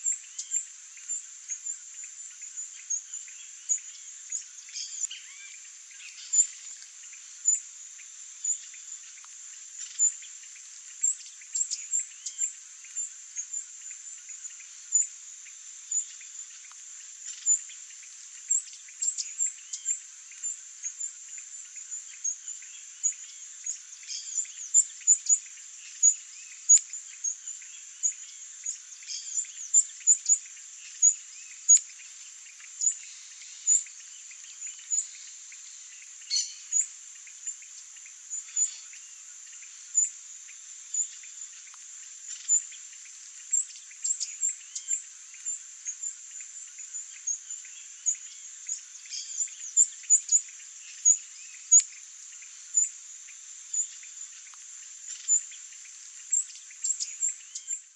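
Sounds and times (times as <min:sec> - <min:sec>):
insect chorus: 0:00.0 - 0:57.9.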